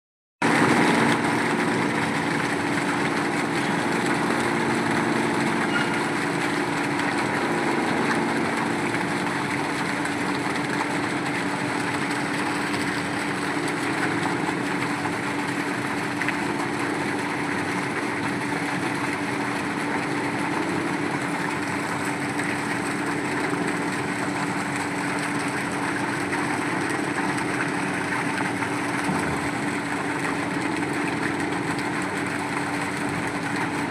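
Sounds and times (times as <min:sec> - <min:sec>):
boring machine engine humming: 0:00.4 - 0:33.9.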